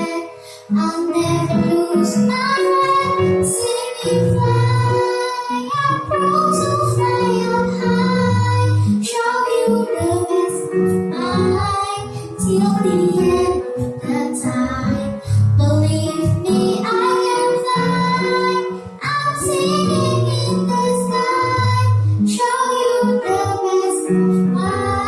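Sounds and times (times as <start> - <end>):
girl singing: 0.0 - 25.0.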